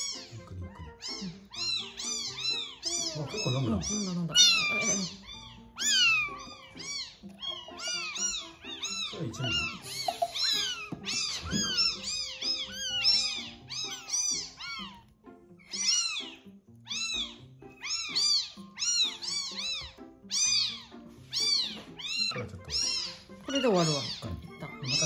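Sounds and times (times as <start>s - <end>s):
kitten screaming: 0.0s - 25.0s.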